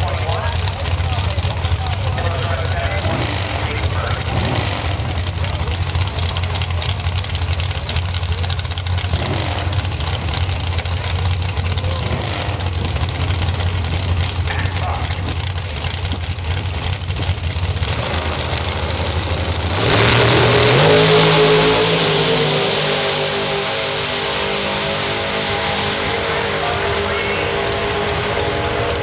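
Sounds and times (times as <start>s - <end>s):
dragster engines rumbling and revving: 0.0s - 29.0s.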